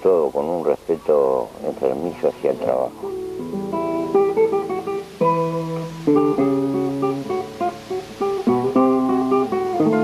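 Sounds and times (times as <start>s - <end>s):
plucked guitar music: 1.2s - 10.0s.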